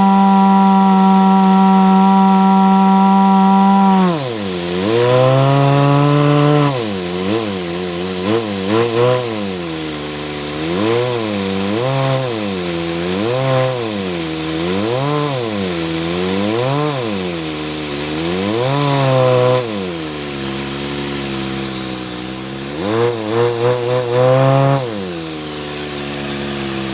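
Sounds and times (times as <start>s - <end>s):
model engine motor buzz: 0.0s - 26.9s
steady high whine: 4.1s - 26.9s.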